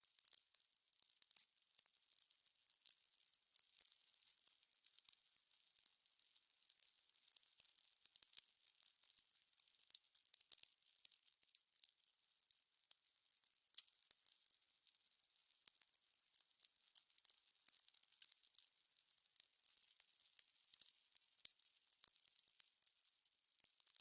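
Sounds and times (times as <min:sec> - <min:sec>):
fire crackling and popping: 0:00.1 - 0:24.0.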